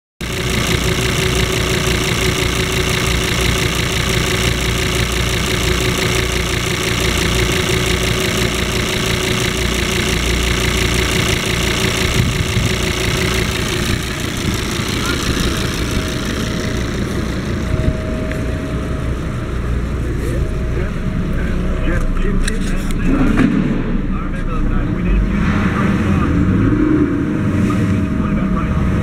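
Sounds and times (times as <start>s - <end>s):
diesel engine idling: 0.2s - 29.0s.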